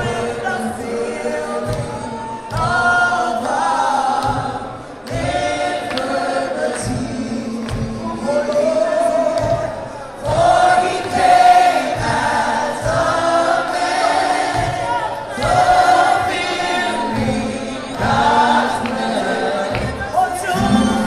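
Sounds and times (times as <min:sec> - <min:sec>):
congregation singing worship song: 0:00.0 - 0:21.0
low musical beats: 0:00.0 - 0:21.0.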